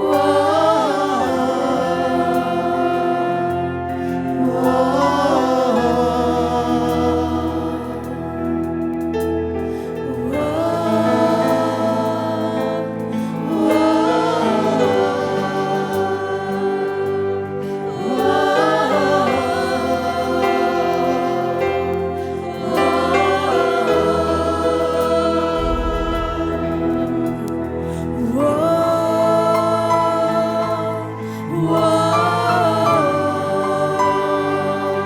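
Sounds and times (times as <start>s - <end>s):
sustained organ chords: 0.0s - 35.0s
voices singing: 0.0s - 35.0s.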